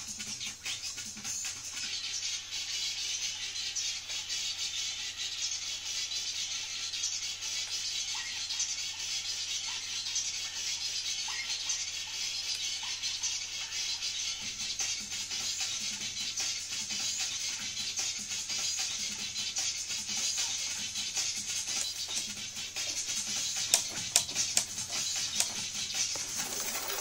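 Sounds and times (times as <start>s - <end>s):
thin music with rattling percussion: 0.0s - 27.0s.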